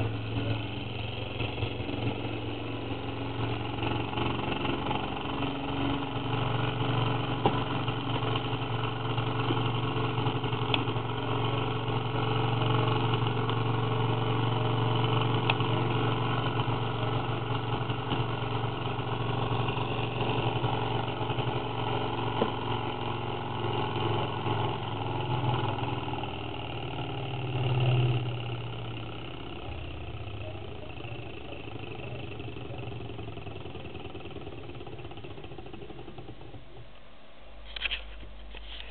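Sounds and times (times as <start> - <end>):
stirling engine humming: 0.0 - 37.0.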